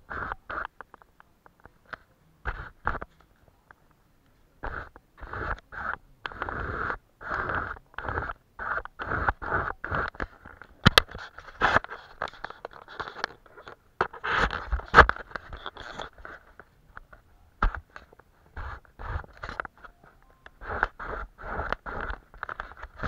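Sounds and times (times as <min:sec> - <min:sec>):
paintbrush scraping on paper: 0:00.0 - 0:00.8, 0:01.9 - 0:03.3, 0:04.6 - 0:16.8, 0:17.6 - 0:23.0.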